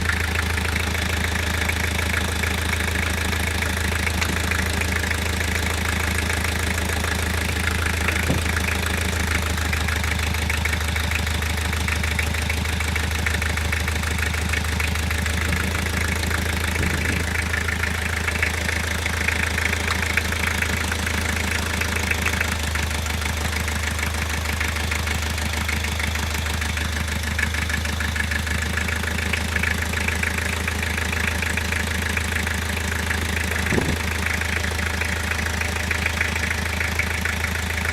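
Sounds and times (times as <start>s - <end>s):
diesel engine idling: 0.0s - 37.9s
engine knock: 0.0s - 37.9s.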